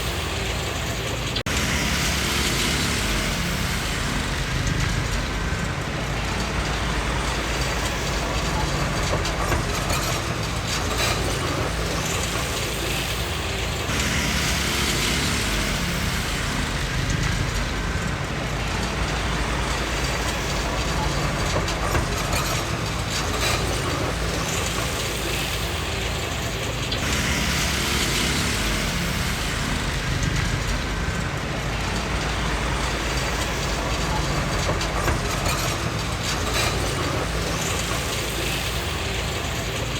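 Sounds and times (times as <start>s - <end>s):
bulldozer diesel engine clattering: 0.0s - 39.9s.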